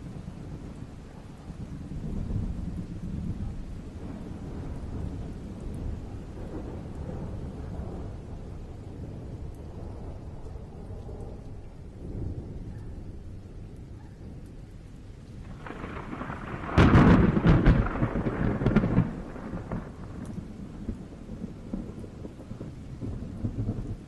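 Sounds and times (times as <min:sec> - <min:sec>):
rolling thunder: 0:00.0 - 0:24.0
steady rain: 0:00.0 - 0:24.0.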